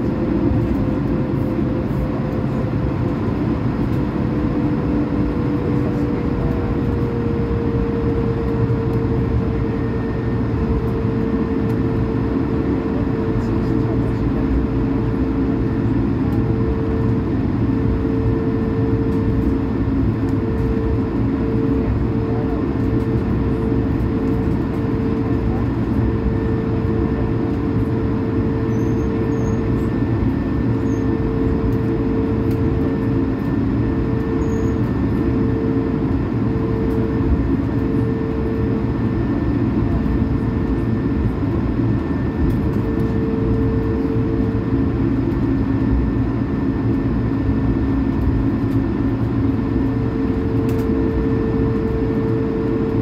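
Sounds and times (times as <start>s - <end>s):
airplane cabin rumble: 0.0s - 53.0s
jet engine humming tone: 0.0s - 53.0s.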